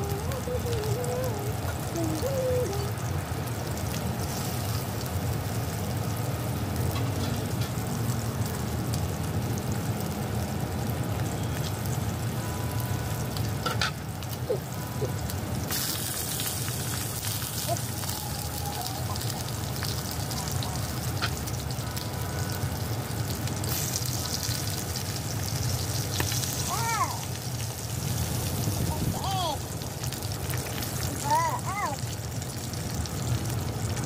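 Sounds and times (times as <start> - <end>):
pork sizzling in oil: 0.0 - 34.0.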